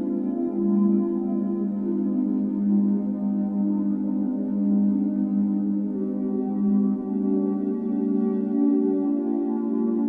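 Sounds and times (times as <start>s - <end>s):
ambient drone music: 0.0s - 10.0s.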